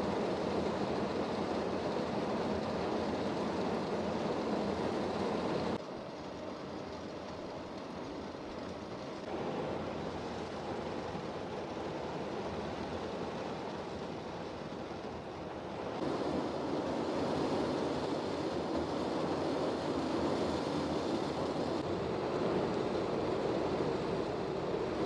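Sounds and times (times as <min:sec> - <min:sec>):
heavy rain: 0:00.0 - 0:25.0
wind: 0:00.0 - 0:25.0.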